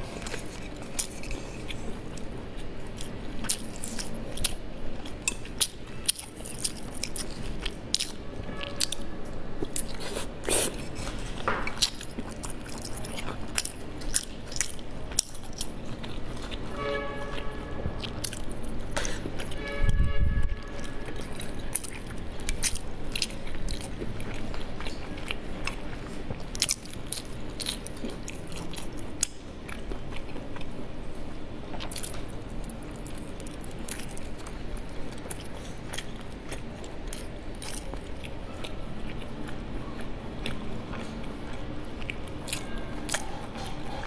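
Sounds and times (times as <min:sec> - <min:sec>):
chewing sticky rice: 0:00.0 - 0:19.6, 0:20.6 - 0:44.0.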